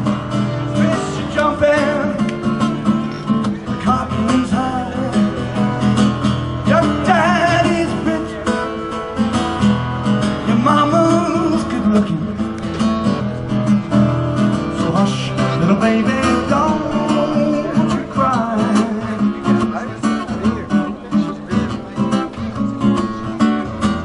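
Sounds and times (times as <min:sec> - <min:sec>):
acoustic guitar strummed: 0:00.0 - 0:24.0.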